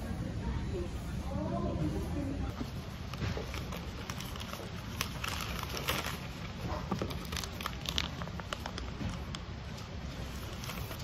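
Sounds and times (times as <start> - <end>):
low background hum: 0.0 - 11.0
plastic and paper rustling: 1.9 - 11.0.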